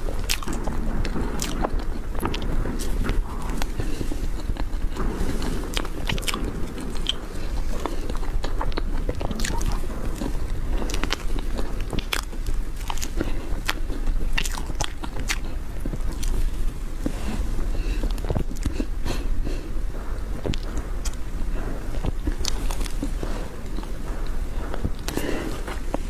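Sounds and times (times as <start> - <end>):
person chewing cake: 0.0 - 26.0
steady low hum: 0.0 - 26.0.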